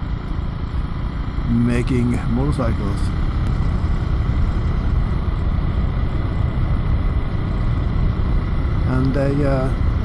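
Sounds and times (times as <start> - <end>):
vehicle rumble: 0.0 - 10.0.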